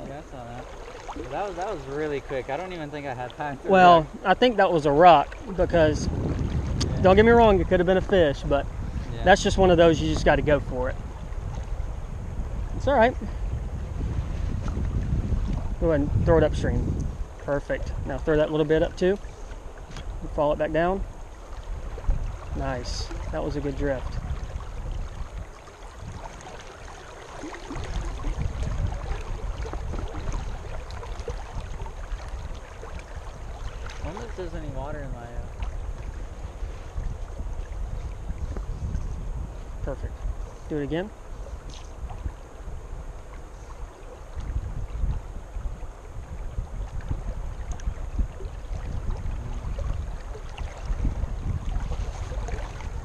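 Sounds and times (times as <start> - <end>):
river rushing and splashing: 0.0 - 13.2, 17.2 - 38.4, 41.1 - 53.0
wind buffeting microphone: 0.0 - 53.0.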